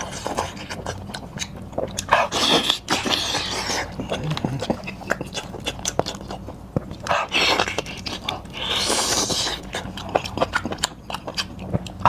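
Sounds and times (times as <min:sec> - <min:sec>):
wet chewing and mouth clicks: 0:00.0 - 0:12.0.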